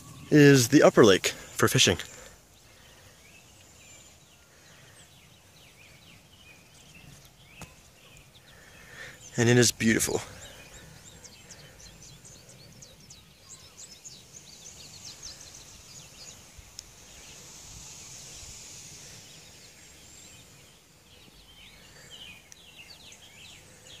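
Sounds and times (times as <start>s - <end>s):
faint birdsong chirps: 0.0s - 24.0s
soft steady hiss: 0.0s - 24.0s.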